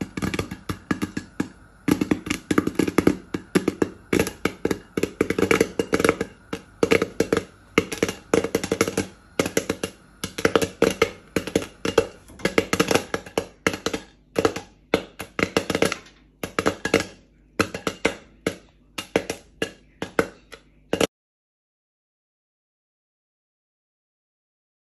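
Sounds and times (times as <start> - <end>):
popcorn popping in a saucepan: 0.0 - 21.1.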